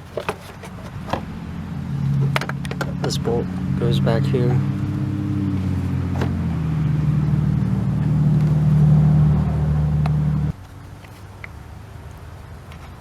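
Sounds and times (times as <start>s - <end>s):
engine idling with low hum: 0.0s - 10.6s.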